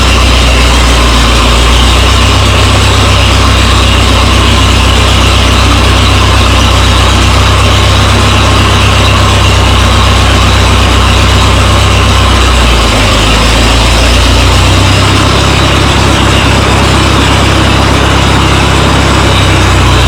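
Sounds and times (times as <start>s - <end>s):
tractor engine cranking: 0.0s - 20.0s.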